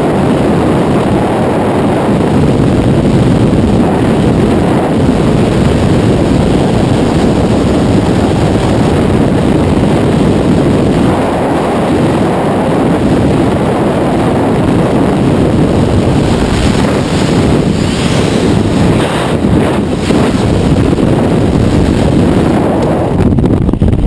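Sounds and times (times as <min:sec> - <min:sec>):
wind buffeting: 0:00.0 - 0:24.0
wind rushing over microphone: 0:00.0 - 0:24.0.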